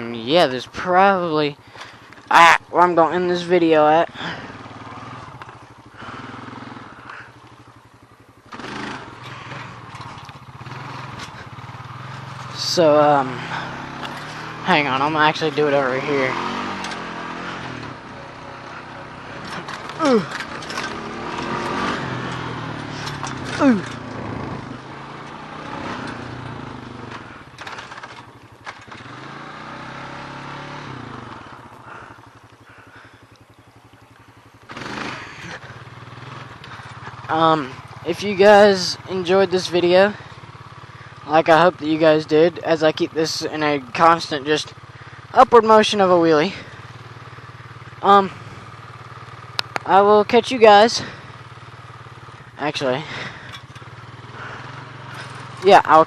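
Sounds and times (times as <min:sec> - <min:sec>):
riding lawn mower engine: 0:00.0 - 0:56.0.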